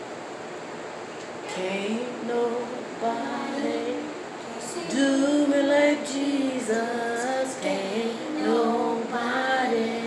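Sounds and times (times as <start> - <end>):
voices singing gospel: 1.4 - 10.0.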